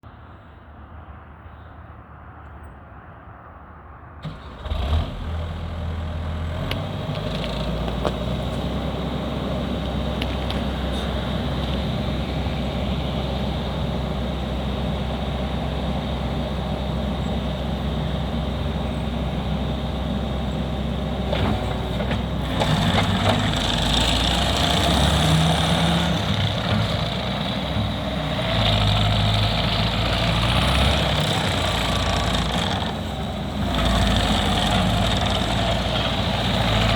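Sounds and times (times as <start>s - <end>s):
diesel engine idling and revving: 4.2s - 36.9s
diesel engine starting: 4.2s - 36.9s.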